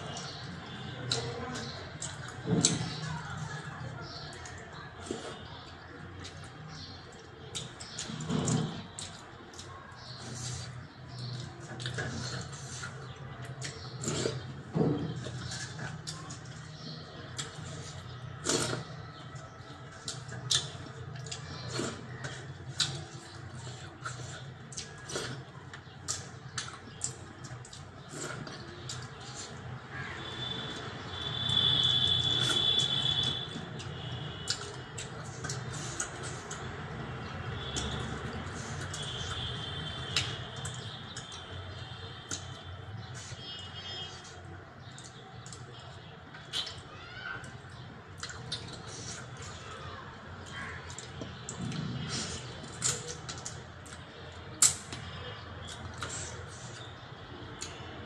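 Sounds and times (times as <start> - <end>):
wet chewing clicks: 0.0 - 58.0.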